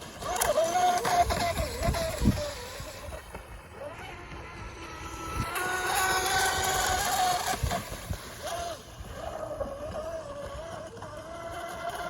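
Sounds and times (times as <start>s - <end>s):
boat electric motor whining: 0.0s - 12.0s.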